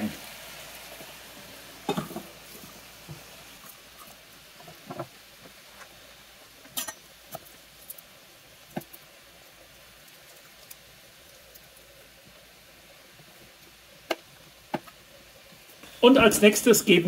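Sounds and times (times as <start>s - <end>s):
faint sizzle of frying pan: 0.0s - 17.0s.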